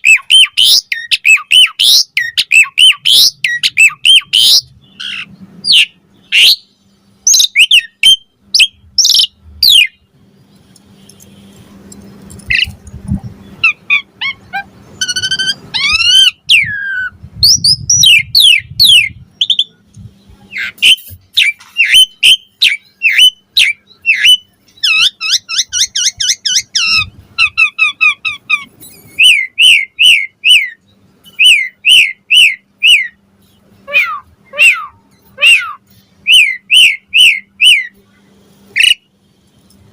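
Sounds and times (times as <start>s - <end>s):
starling singing: 0.0s - 10.6s, 12.3s - 39.1s.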